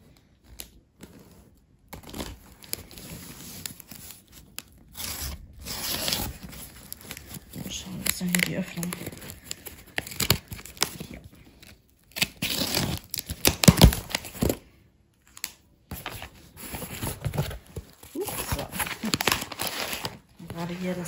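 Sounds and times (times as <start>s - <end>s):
paper rustling and crinkling: 0.0s - 21.0s
packaging being torn open: 0.4s - 16.3s, 17.1s - 20.4s.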